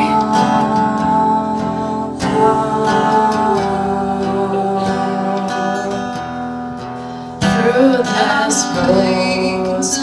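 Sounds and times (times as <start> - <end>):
acoustic guitar strumming: 0.0 - 10.0
person singing: 0.0 - 10.0.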